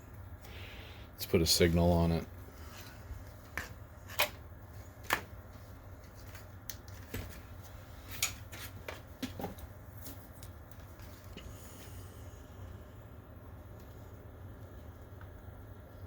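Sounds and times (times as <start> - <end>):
projector hum: 0.0 - 16.0.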